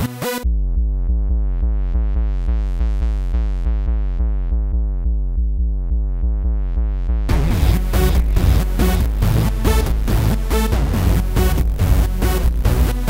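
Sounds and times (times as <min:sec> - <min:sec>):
deep bass: 0:00.0 - 0:13.0
repeating synthesizer note: 0:00.0 - 0:13.0.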